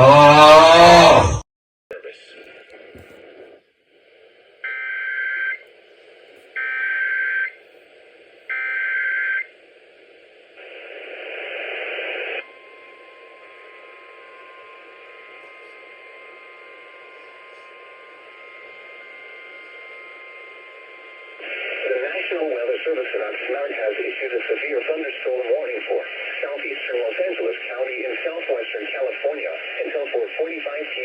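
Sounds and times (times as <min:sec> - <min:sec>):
loud static: 0:00.0 - 0:04.7, 0:07.4 - 0:08.6, 0:09.4 - 0:31.0.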